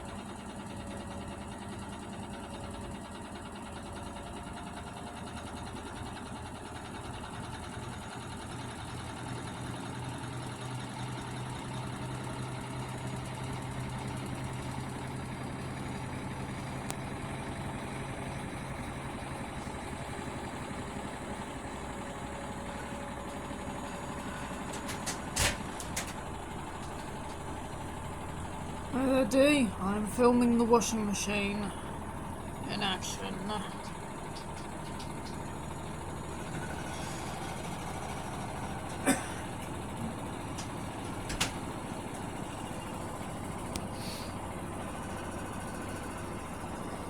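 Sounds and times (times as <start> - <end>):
washing machine running: 0.0 - 47.0.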